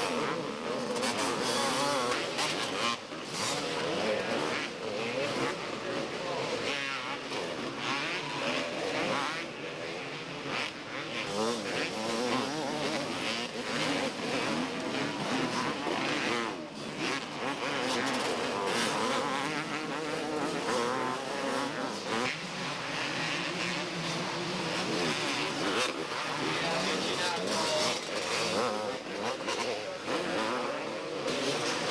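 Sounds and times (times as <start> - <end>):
motocross bikes revving: 0.0 - 31.9.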